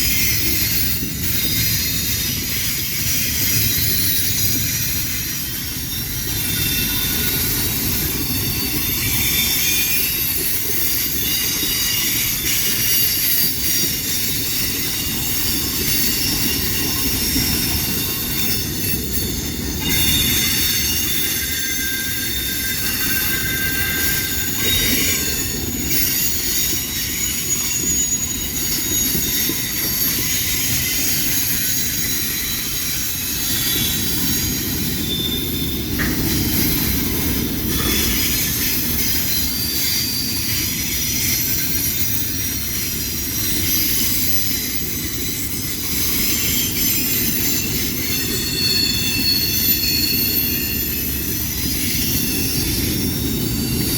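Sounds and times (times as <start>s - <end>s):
train wheels rumbling on rail: 0.0s - 53.9s
wheel squeal: 0.0s - 53.9s.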